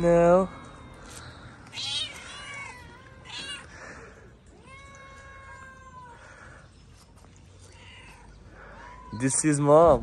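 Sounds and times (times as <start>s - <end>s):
cats meowing: 0.0s - 10.0s.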